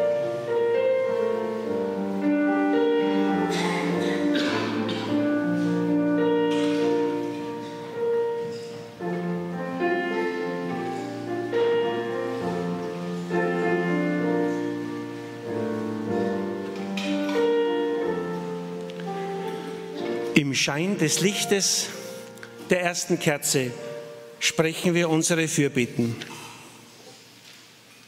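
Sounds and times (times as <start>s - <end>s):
slow piano music: 0.0s - 27.9s.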